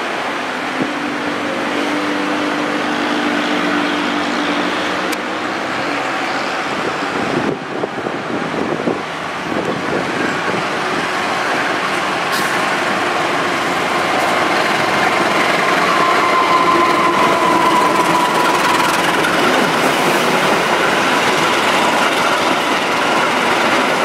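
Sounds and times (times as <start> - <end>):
train rumbling over track: 0.0 - 24.0
diesel locomotive engine running: 0.1 - 24.0.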